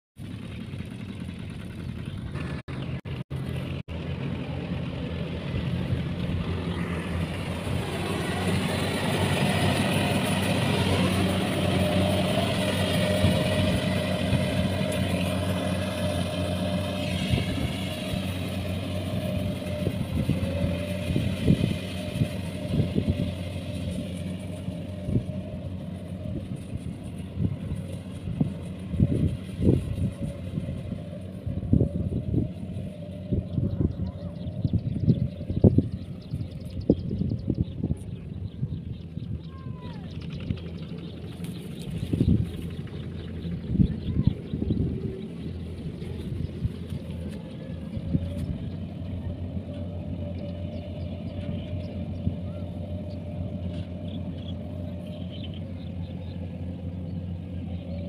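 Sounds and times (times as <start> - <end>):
combine harvester engine running: 0.2 - 58.0.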